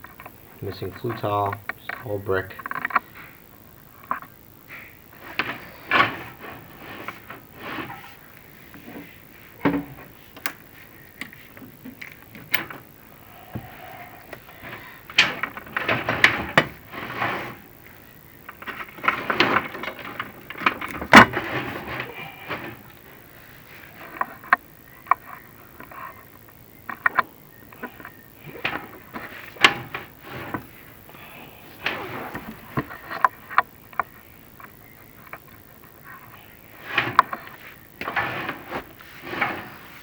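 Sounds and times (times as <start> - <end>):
camera scraping brick walls: 4.0 - 40.0.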